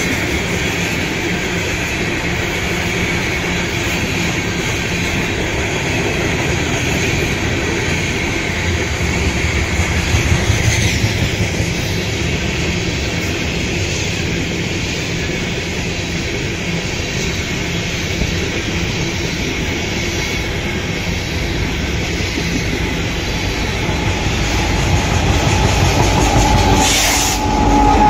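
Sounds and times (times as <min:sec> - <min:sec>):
diesel locomotives passing: 0:00.0 - 0:28.0
freight train wheels rumbling: 0:00.0 - 0:28.0.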